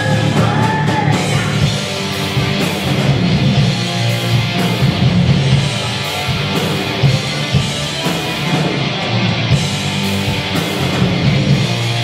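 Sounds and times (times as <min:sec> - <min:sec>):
bass guitar: 0:00.0 - 0:12.0
distorted electric guitars: 0:00.0 - 0:12.0
drums with cymbals: 0:00.0 - 0:12.0.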